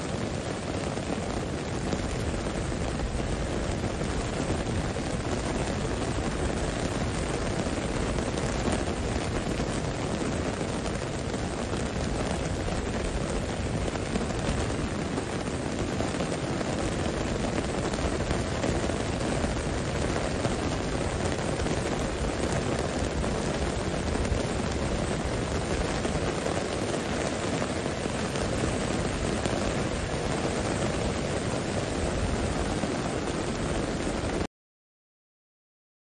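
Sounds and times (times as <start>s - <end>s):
heavy rain falling: 0.0s - 34.5s.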